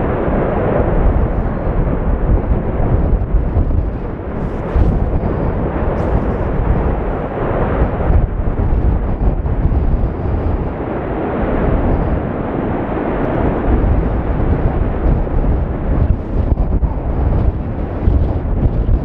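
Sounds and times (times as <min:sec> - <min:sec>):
lava fountain rushing: 0:00.0 - 0:19.0.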